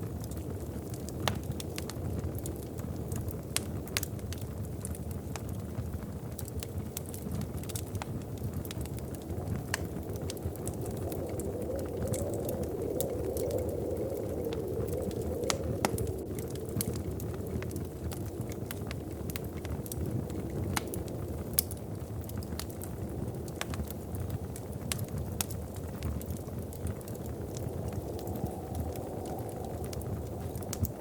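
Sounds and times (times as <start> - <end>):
fire burning with crackles: 0.0 - 31.0.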